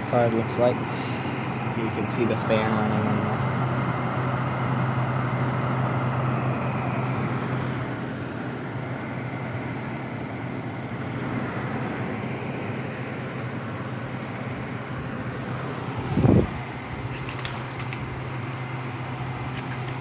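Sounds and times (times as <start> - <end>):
air conditioner fan noise: 0.0 - 20.0
low motor hum: 0.0 - 20.0.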